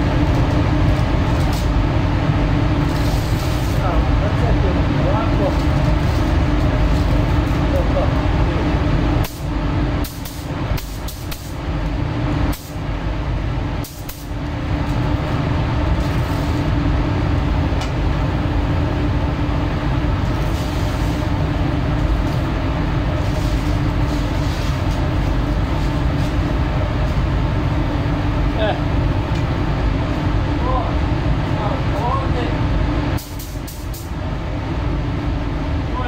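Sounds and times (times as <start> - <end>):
ventilation air rush with hum: 0.0 - 36.0.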